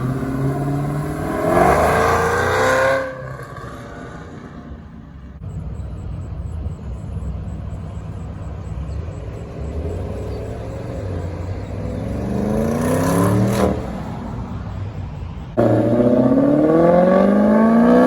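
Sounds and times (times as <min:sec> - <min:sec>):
car engine rumbling and revving: 0:00.0 - 0:18.0.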